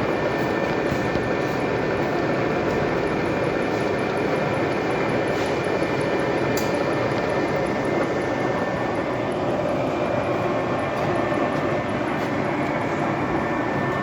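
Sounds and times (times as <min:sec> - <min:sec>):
metalworking workshop din: 0:00.0 - 0:14.0.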